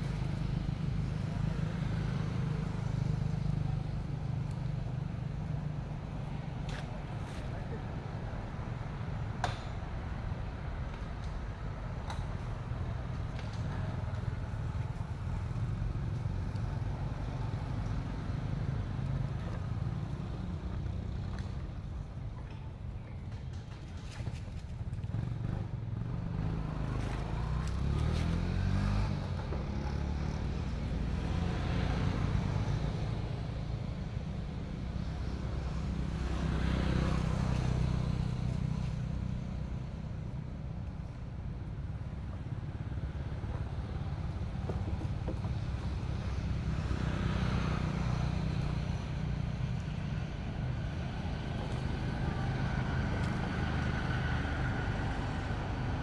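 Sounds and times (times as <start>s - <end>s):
vehicles passing rumble: 0.0s - 56.0s.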